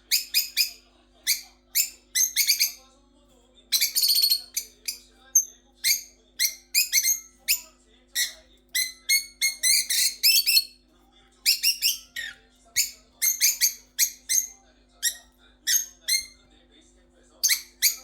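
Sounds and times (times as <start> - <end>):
parrots chirping: 0.0 - 2.9, 3.7 - 10.8, 11.4 - 16.4, 17.4 - 18.0.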